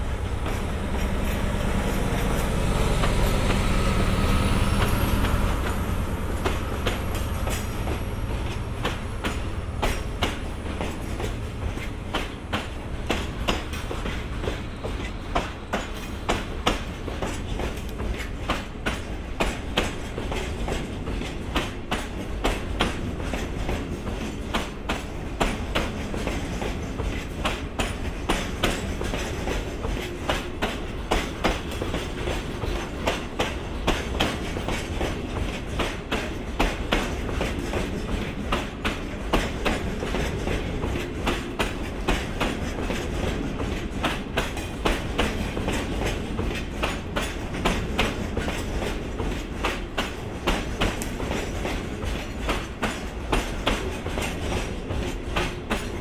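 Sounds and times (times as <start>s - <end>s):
train low rumble: 0.0s - 56.0s
train wheels clickety-clack: 0.0s - 56.0s.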